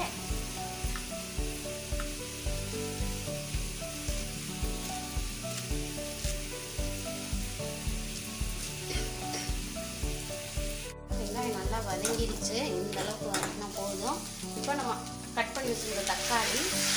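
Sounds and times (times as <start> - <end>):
background music with steady beat: 0.0 - 16.1
onions sizzling in oil: 0.0 - 16.9.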